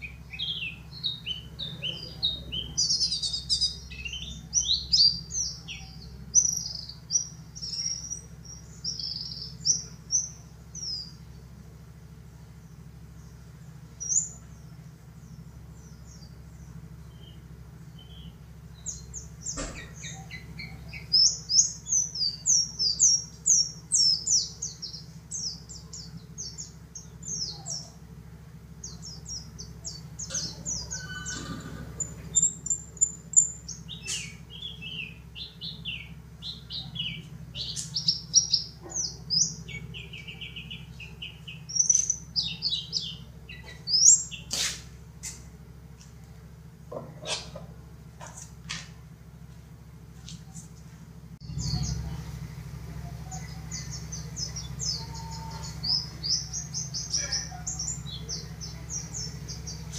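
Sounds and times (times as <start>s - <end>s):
bird twittering: 0.0s - 11.4s, 13.2s - 28.0s, 28.8s - 45.4s, 47.0s - 48.5s, 51.4s - 59.9s
steady low hum: 0.0s - 59.9s.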